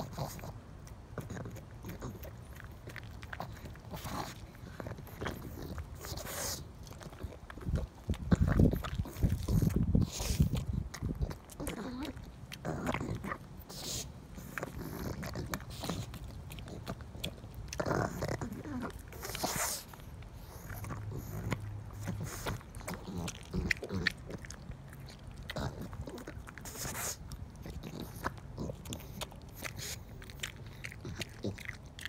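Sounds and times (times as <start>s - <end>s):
dog chewing a tomato: 0.0s - 32.0s.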